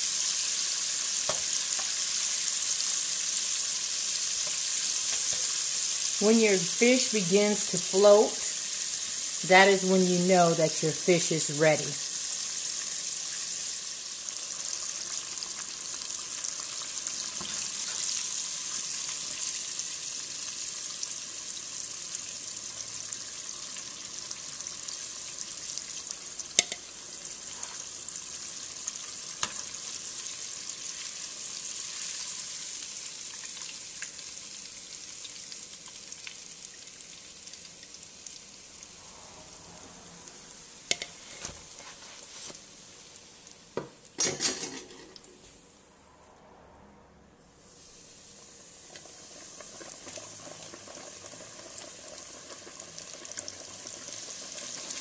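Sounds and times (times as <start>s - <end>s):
fish deep-frying in hot oil: 0.0s - 45.4s, 47.9s - 55.0s.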